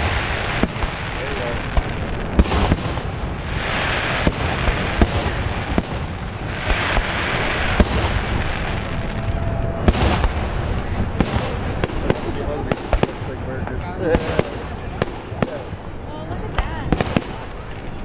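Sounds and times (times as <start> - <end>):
fireworks bangs: 0.0 - 18.0
fireworks hissing crackle: 0.0 - 18.0.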